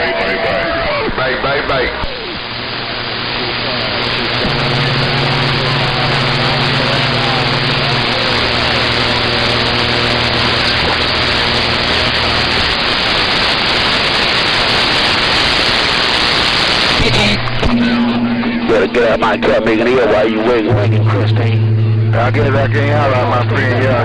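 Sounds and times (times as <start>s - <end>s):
radio static hiss: 0.0s - 24.0s
low hum: 1.1s - 24.0s.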